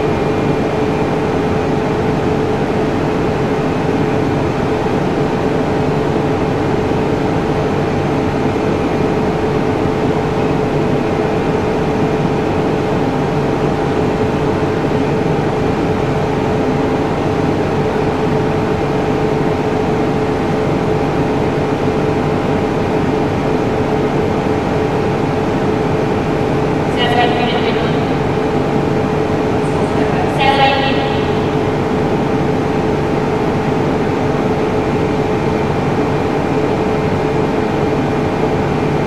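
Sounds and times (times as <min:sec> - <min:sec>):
steady two-tone machine hum: 0:00.0 - 0:39.0.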